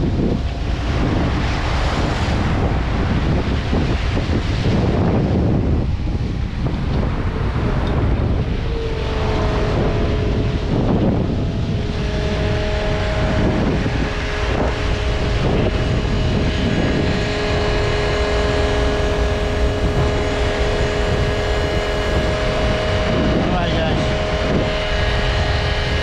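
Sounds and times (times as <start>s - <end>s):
boat engine rumble: 0.0s - 26.0s
rushing water: 0.0s - 26.0s
steady whine: 0.0s - 26.0s
wind: 0.0s - 26.0s.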